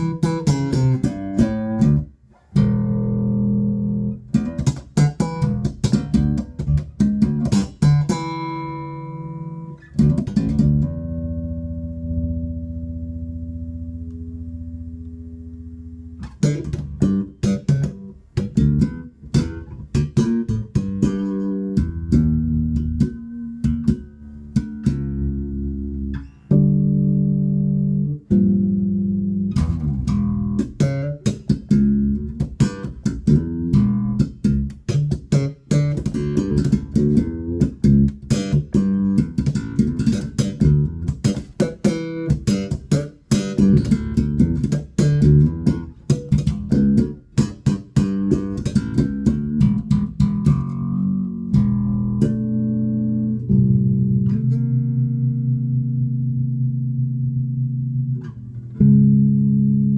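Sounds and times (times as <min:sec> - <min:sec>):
electric bass notes: 0:00.0 - 0:59.9.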